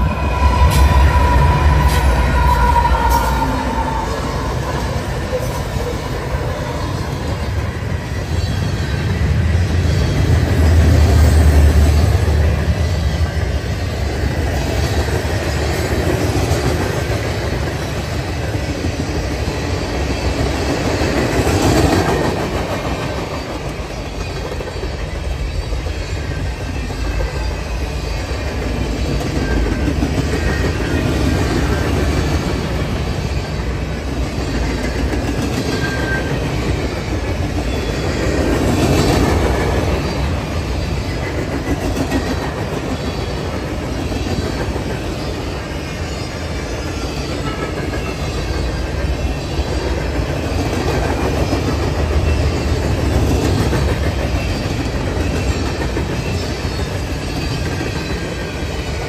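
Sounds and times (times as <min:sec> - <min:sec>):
diesel locomotives rumbling: 0:00.0 - 0:59.0
train wheels clicking over rail joints: 0:00.0 - 0:59.0.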